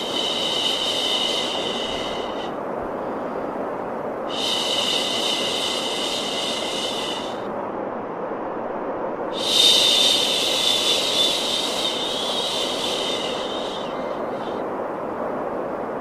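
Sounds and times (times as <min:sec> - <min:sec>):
steady white noise: 0:00.0 - 0:16.0.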